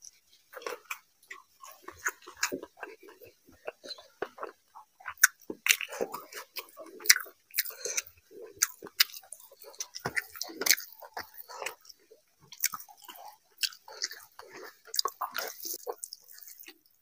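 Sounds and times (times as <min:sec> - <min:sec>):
fingers squelching rice and gravy: 0:00.5 - 0:16.9.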